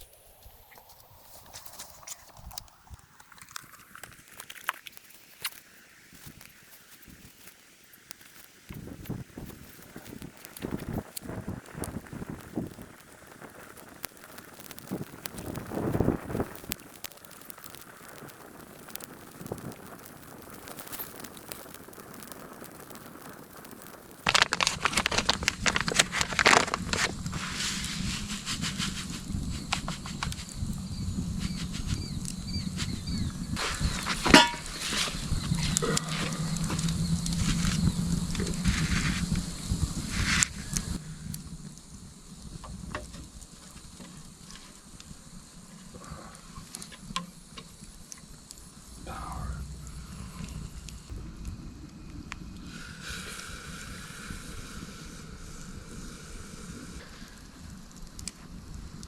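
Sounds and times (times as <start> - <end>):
kindling crackling: 0.0 - 59.0.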